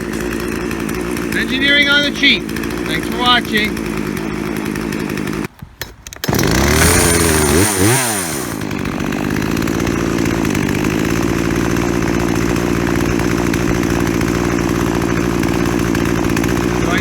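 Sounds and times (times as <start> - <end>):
chainsaw engine revving and idling: 0.0 - 5.5, 6.1 - 17.0.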